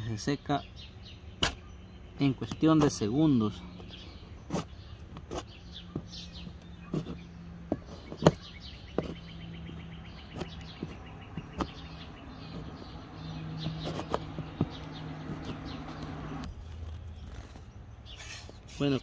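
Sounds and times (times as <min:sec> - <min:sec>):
birds chirping: 0:00.0 - 0:19.0
bird trilling: 0:00.6 - 0:18.7.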